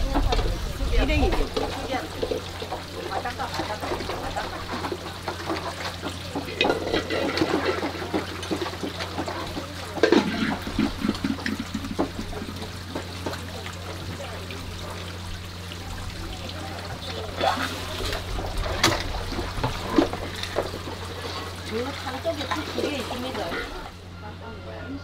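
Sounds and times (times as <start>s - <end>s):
water splashing in a bowl: 0.0s - 24.0s
steady low hum: 0.0s - 25.0s.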